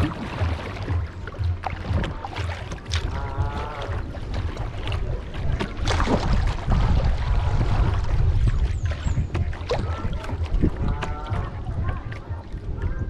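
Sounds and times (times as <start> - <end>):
paddle splashing in water: 0.0 - 13.0
wind rumble on microphone: 0.0 - 13.0.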